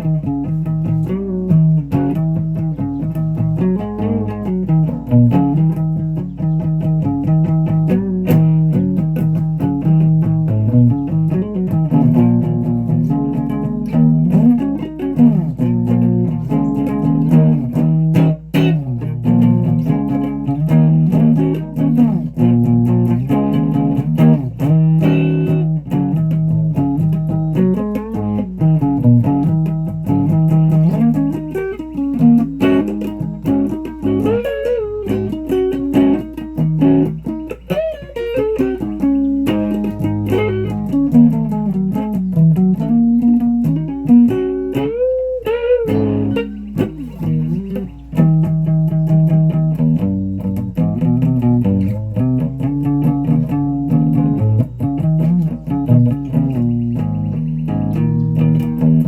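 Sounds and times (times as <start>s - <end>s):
plucked guitar notes: 0.0s - 59.0s.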